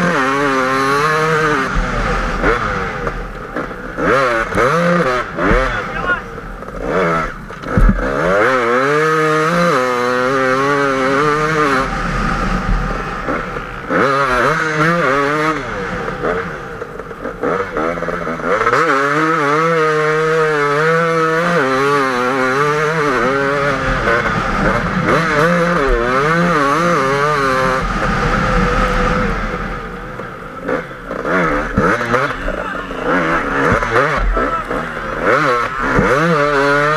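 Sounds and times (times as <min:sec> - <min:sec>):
two-stroke motorcycle engine revving: 0:00.0 - 0:36.9.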